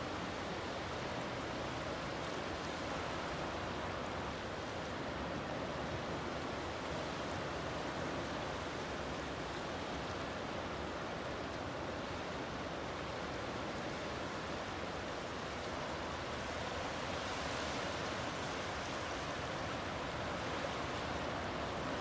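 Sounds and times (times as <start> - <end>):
waves washing onto sand: 0.0 - 22.0.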